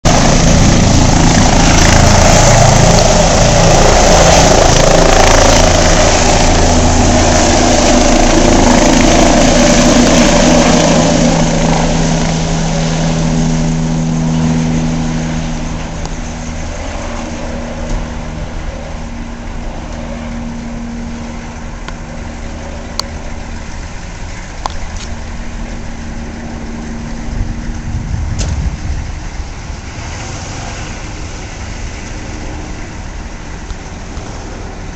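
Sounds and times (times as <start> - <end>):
helicopter turbine and rotor: 0.0 - 34.9.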